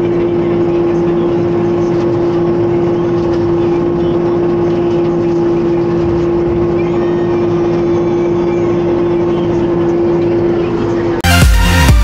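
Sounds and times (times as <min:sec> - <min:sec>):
steady humming tone: 0:00.0 - 0:12.0
tractor engine running: 0:00.0 - 0:12.0.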